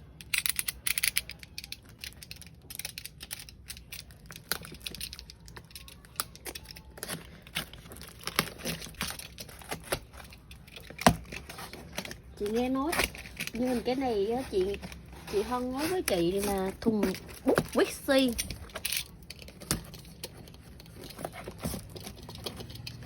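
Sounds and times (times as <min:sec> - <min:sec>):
plastic packing crinkling: 0:01.2 - 0:23.0.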